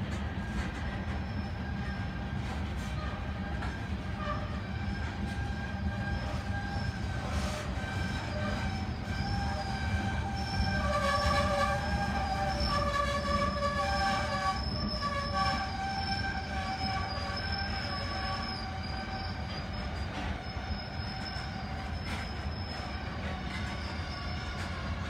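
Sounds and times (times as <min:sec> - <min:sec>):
freight train rolling rumble: 0:00.0 - 0:25.0
train wheels squealing: 0:00.0 - 0:25.0.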